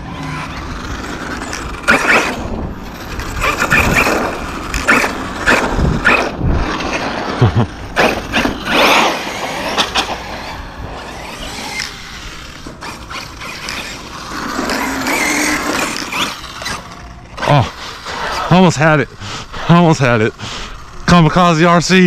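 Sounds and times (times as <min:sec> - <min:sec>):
toy truck motor whirring: 0:00.0 - 0:22.0.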